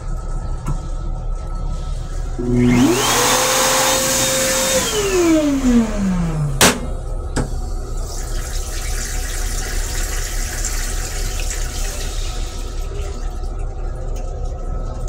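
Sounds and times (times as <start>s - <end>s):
toilet flush rushing: 2.2s - 15.0s.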